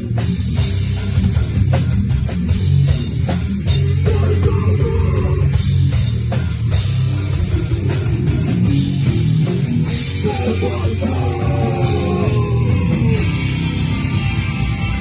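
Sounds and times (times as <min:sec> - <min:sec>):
distorted electric guitars: 0:00.0 - 0:15.0
drum kit: 0:00.0 - 0:15.0.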